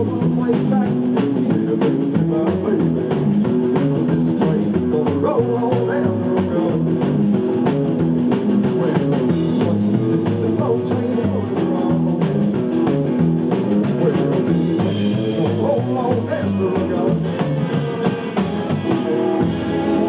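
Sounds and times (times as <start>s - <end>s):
rockabilly band playing: 0.0s - 20.0s.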